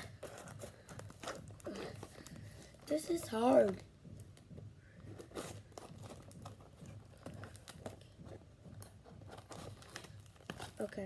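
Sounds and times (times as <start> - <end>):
wrapping crinkling and rustling: 0.0 - 11.0.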